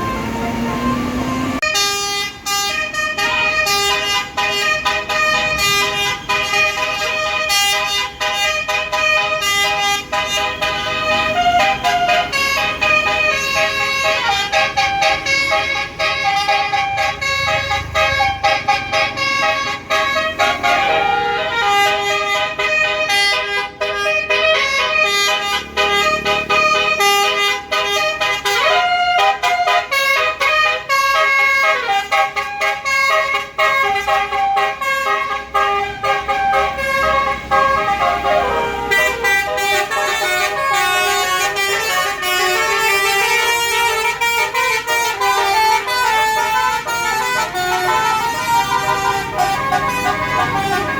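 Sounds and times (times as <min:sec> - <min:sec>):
bus horn playing a melody: 0:00.0 - 0:50.9.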